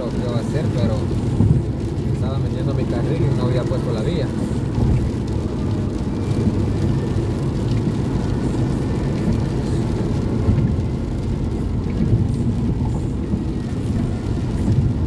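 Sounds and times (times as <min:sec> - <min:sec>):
rain on car: 0:00.0 - 0:15.0
tyres rumbling on wet pavement: 0:00.0 - 0:15.0.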